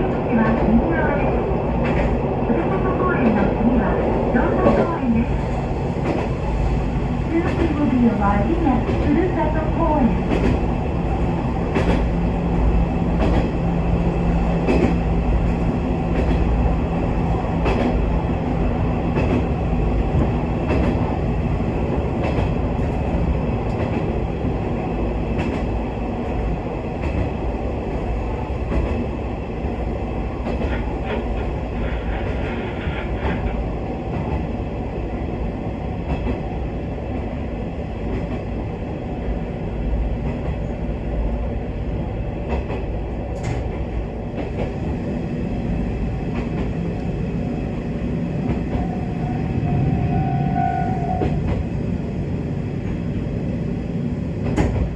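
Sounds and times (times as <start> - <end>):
diesel railcar engine drone: 0.0 - 54.9.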